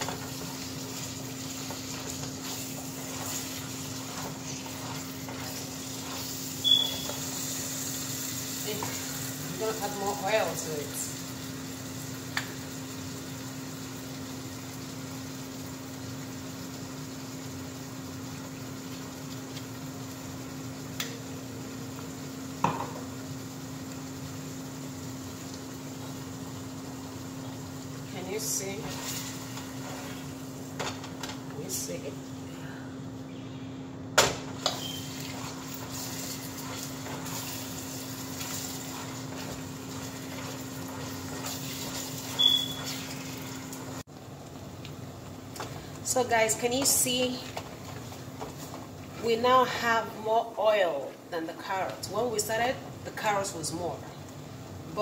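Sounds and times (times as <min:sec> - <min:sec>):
food sizzling in oil: 0:00.0 - 0:33.2, 0:33.9 - 0:50.6
faint hum: 0:00.0 - 0:55.0.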